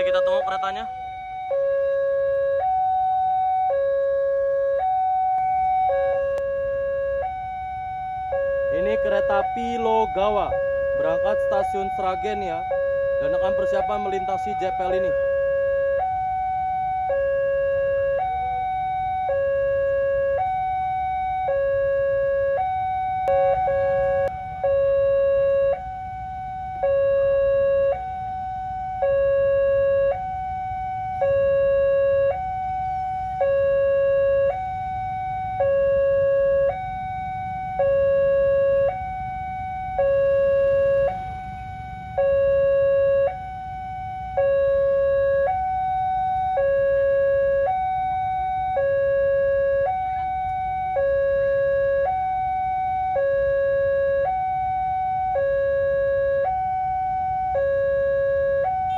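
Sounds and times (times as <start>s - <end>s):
two-tone crossing warning siren: 0.0s - 58.9s.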